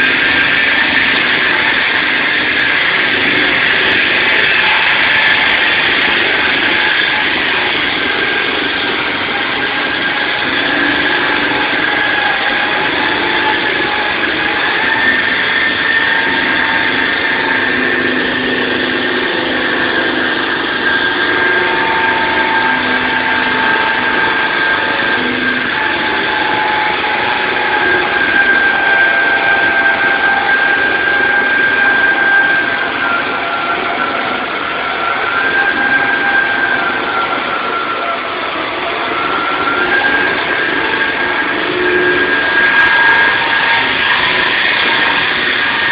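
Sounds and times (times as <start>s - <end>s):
concrete saw whine: 0.0s - 45.9s.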